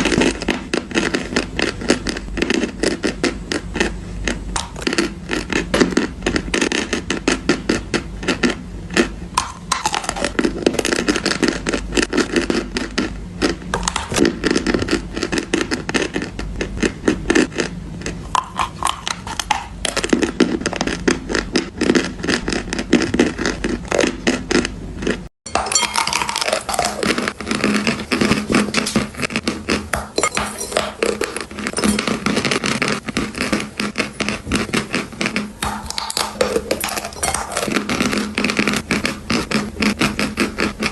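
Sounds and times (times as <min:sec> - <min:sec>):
chalk being chewed crunching: 0:00.0 - 0:40.9.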